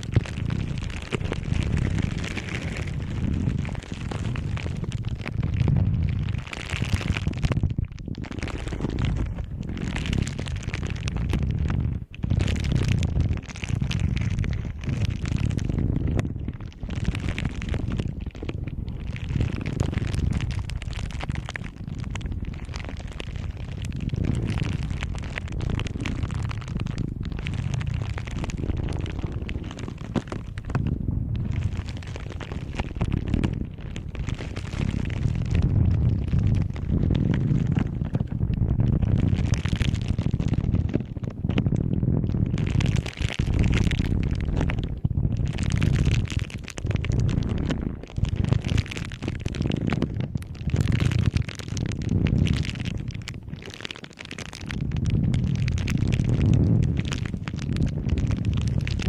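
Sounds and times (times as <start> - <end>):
crackling and rustling: 0.0 - 59.0
low rumbling swells: 0.0 - 59.0.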